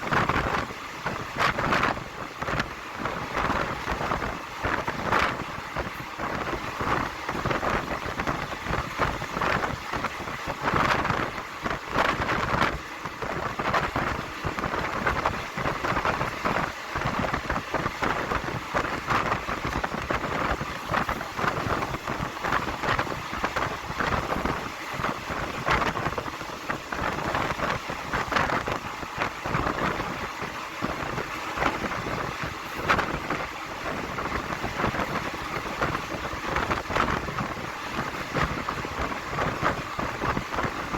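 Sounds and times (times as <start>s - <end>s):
train wind and wheel noise: 0.0s - 40.9s.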